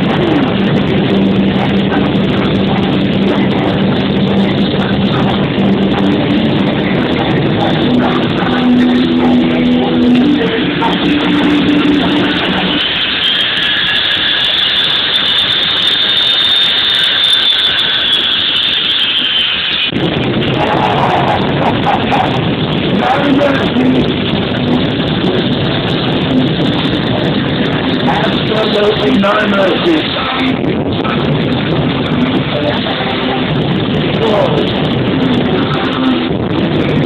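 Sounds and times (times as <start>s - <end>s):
high whine: 0.0s - 37.0s
music: 0.0s - 37.0s
turbine engine roaring: 0.0s - 37.0s.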